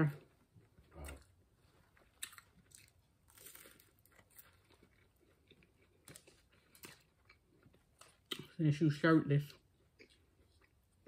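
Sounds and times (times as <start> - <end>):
crunching and chewing: 0.0 - 8.6, 9.4 - 11.0.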